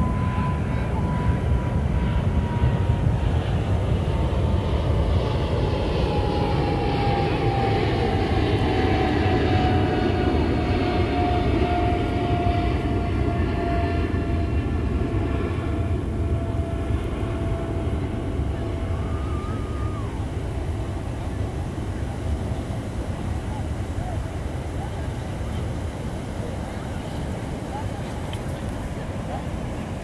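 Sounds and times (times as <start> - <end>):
jet plane passing overhead: 0.0 - 30.0.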